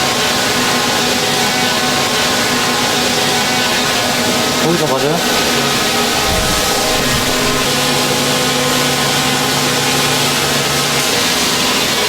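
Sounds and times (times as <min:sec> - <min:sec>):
workshop machine hissing and humming: 0:00.0 - 0:12.0.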